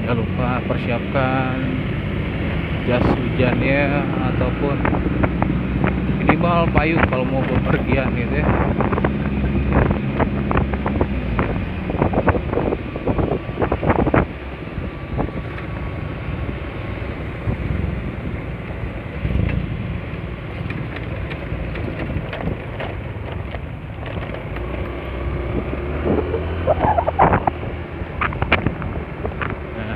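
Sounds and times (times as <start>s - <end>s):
road noise: 0.0s - 29.9s
scooter engine: 0.0s - 29.9s
wind buffeting microphone: 2.0s - 29.9s.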